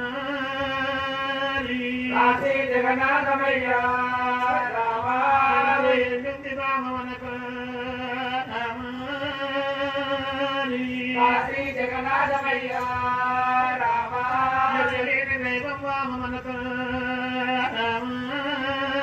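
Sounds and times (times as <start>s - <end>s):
folk singers chanting: 0.0s - 19.0s.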